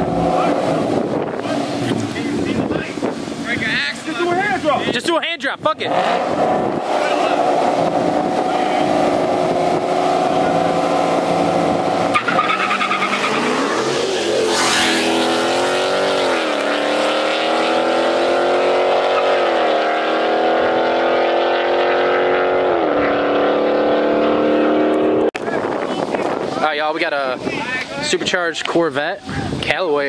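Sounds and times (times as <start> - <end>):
car engines revving: 0.0 - 26.6.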